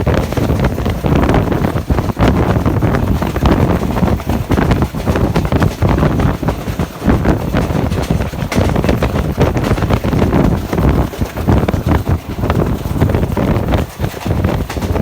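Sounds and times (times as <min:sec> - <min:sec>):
train wheels rumbling on track: 0:00.0 - 0:15.0
wind buffeting microphone: 0:00.0 - 0:15.0.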